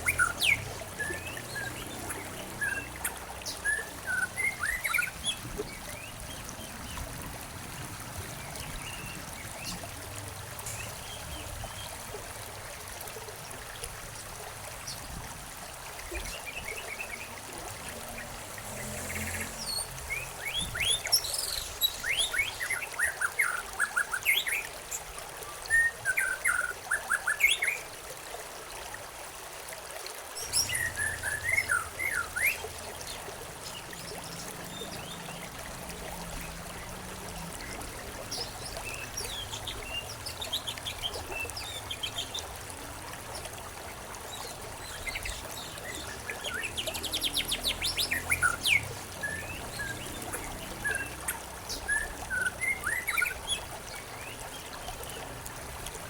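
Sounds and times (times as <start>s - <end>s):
songbirds chirping: 0.0s - 12.2s, 16.0s - 27.8s, 30.4s - 43.6s, 44.2s - 55.6s
trickle of running water: 0.0s - 56.0s.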